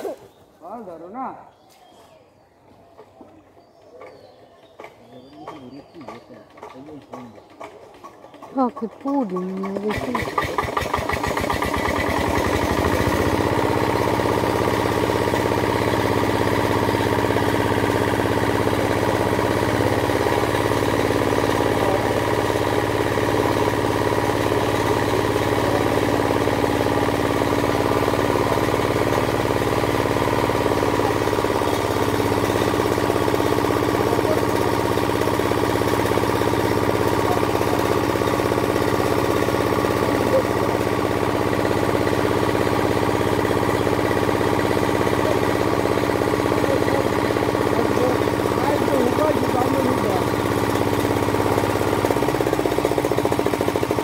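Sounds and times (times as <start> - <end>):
small engine driving water pump: 3.9 - 54.0.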